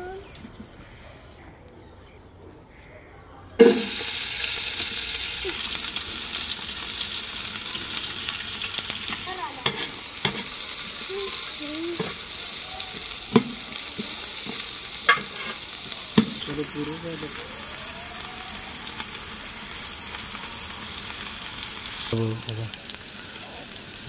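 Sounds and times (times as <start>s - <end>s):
onions sizzling in oil: 3.6s - 24.0s.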